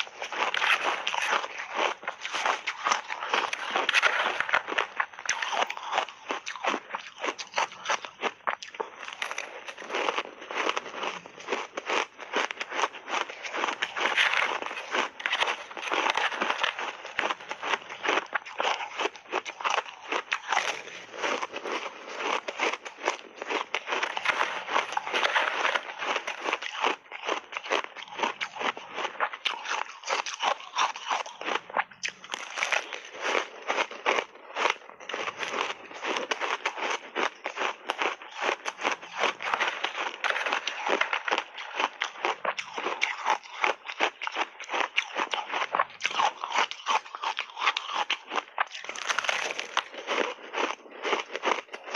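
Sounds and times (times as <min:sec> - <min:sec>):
chewing crushed ice: 0:00.0 - 0:51.9.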